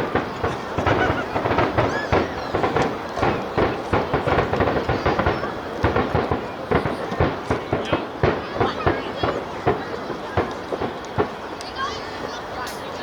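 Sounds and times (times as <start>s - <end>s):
crowd voices: 0.0s - 13.0s
distant fireworks bangs and crackles: 0.0s - 13.0s.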